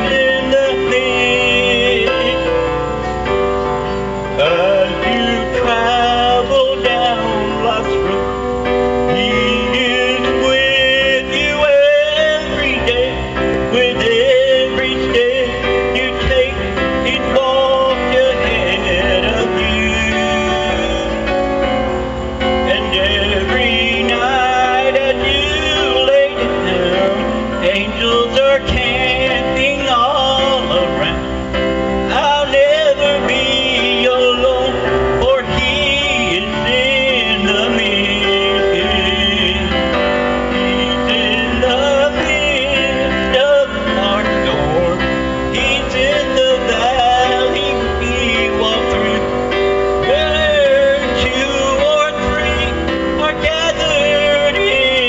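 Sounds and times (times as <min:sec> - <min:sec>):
instrumental accompaniment: 0:00.0 - 0:55.0
man singing into microphone: 0:00.0 - 0:55.0.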